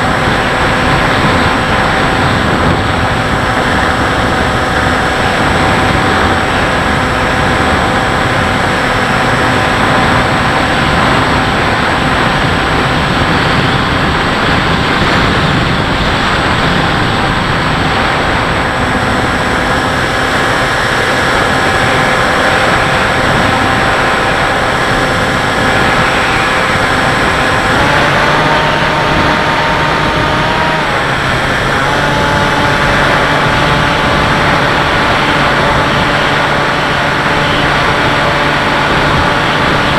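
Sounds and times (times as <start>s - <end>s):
electric motor and propeller whining: 0.0s - 39.9s
loud wind rush: 0.0s - 39.9s.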